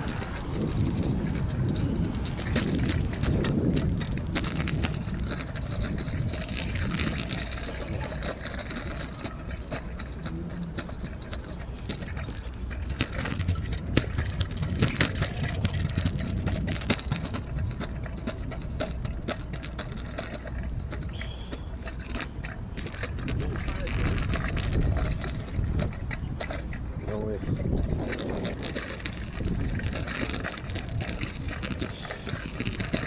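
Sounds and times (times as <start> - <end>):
scattered knocks and clicks: 0.0 - 33.0
vehicle engine rumble: 0.0 - 33.0.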